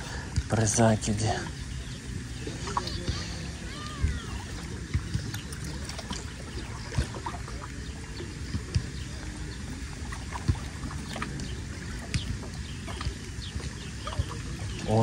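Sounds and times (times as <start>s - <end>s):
wind buffeting microphone: 1.5s - 15.0s.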